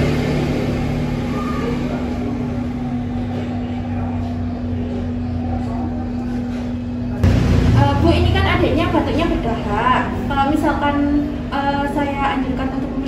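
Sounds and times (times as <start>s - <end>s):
steady low hum: 1.9s - 13.0s.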